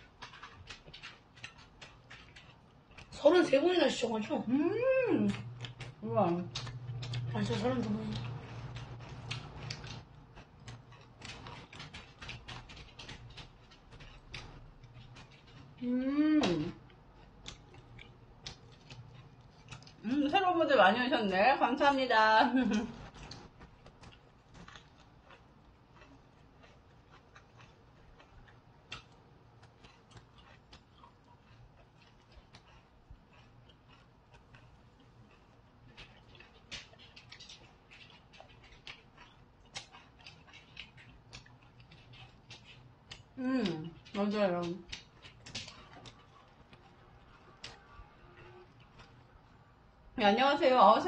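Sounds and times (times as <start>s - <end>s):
chewing and mouth noises: 0.0s - 20.8s, 21.6s - 50.1s.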